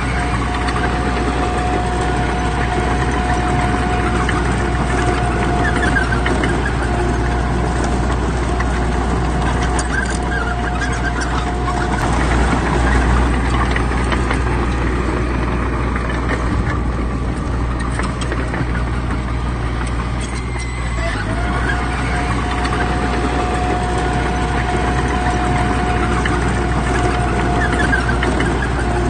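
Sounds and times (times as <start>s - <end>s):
diesel engine rumble: 0.0s - 29.0s
machinery clanks: 0.0s - 29.0s
steady high whine: 0.0s - 29.0s.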